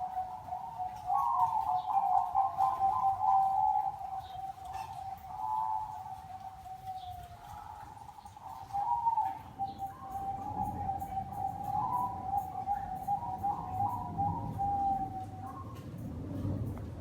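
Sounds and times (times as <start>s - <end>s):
dove cooing: 0.0s - 16.8s.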